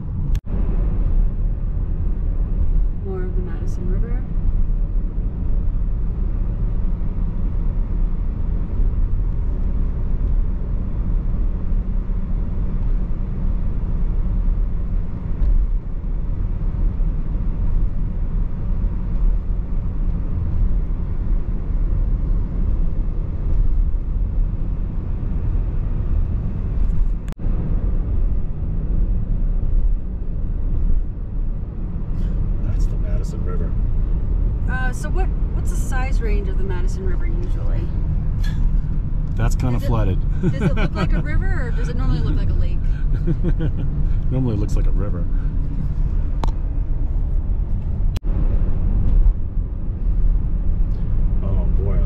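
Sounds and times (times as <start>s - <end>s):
car driving from inside cabin: 0.0s - 52.0s.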